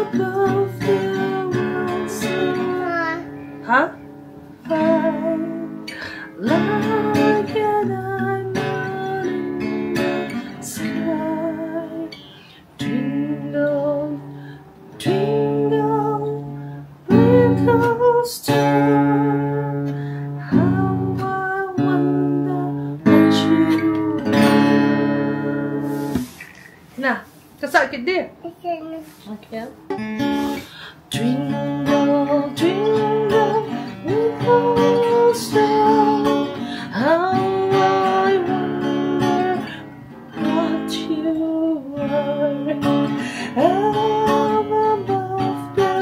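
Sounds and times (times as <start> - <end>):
woman singing: 0.0 - 3.0, 3.6 - 26.1, 30.0 - 46.0
acoustic guitar strumming: 0.0 - 26.9, 29.8 - 46.0.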